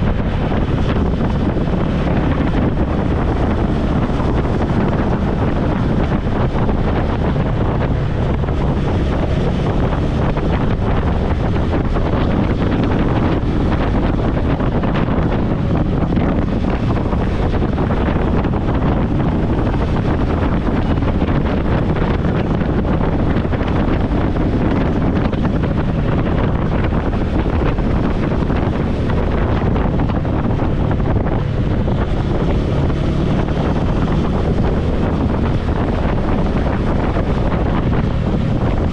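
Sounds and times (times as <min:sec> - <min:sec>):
motorcycle engine humming: 0:00.0 - 0:38.9
wind buffeting microphone: 0:00.0 - 0:38.9.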